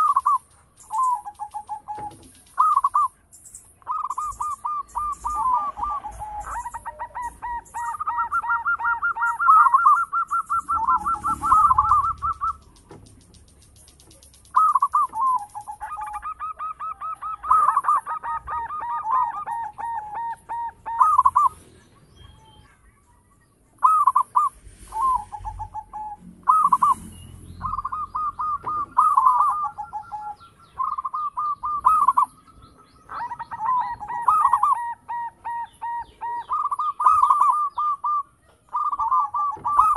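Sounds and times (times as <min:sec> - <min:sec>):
doves cooing: 0:00.0 - 0:23.1, 0:23.8 - 0:39.9.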